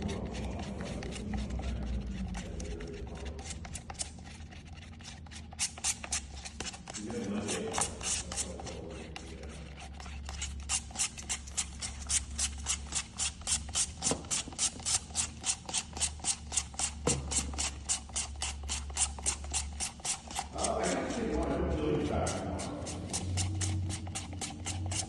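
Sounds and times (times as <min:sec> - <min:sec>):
stick scraping in a cup: 0:00.0 - 0:25.0.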